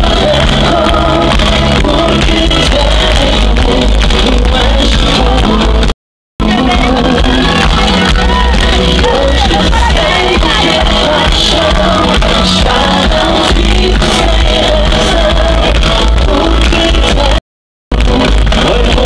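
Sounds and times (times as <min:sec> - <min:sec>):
drums: 0:00.0 - 0:19.0
man singing into a microphone: 0:00.0 - 0:19.0.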